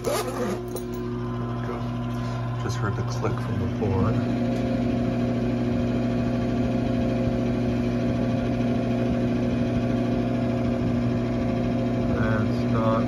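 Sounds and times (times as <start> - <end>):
furnace motor humming: 0.0 - 13.0.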